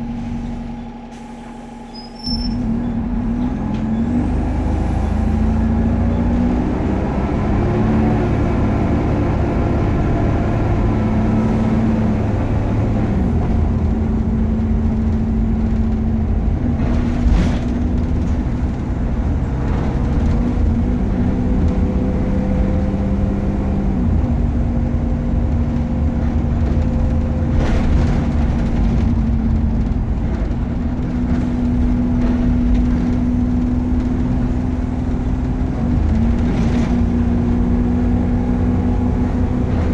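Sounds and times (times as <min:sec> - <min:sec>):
bus engine drone with whine: 0:00.0 - 0:39.9.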